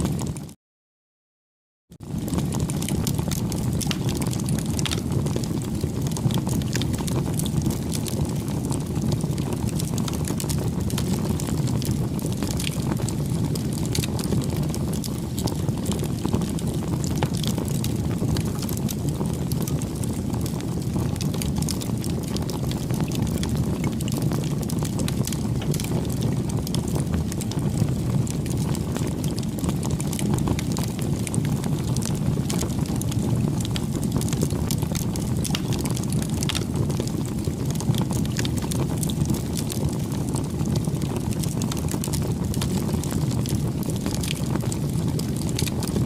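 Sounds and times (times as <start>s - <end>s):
wood fire crackling: 0.0s - 0.5s, 2.0s - 46.0s.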